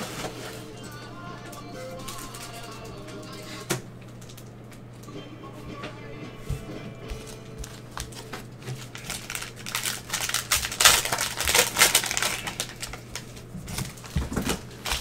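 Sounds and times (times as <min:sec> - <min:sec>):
cellophane wrappers crinkling: 0:00.0 - 0:04.6, 0:07.6 - 0:15.0.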